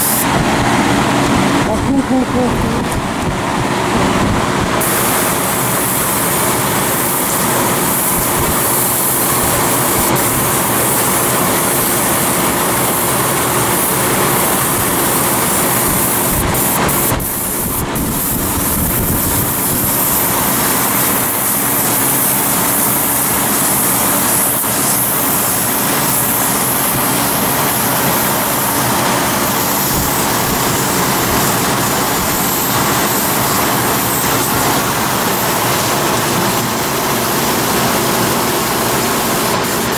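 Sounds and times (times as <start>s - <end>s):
airbrush air hiss: 0.0s - 0.3s, 4.8s - 39.9s
air compressor motor hum: 0.0s - 39.9s.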